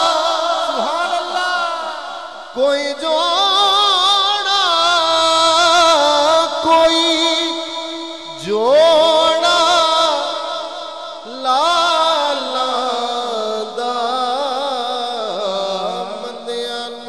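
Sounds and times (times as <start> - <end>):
man singing melismatic vocal line: 0.0 - 17.0.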